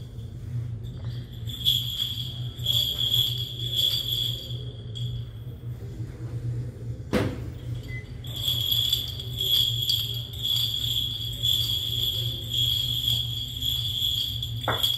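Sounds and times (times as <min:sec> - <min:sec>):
small bells jingling: 0:00.0 - 0:05.8, 0:07.5 - 0:14.9
low steady hum: 0:00.0 - 0:14.9
steady high ringing: 0:00.0 - 0:14.9.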